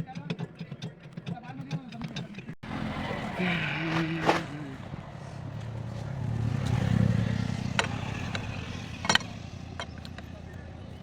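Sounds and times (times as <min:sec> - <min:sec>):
vehicle engine rumble: 0:01.1 - 0:11.0.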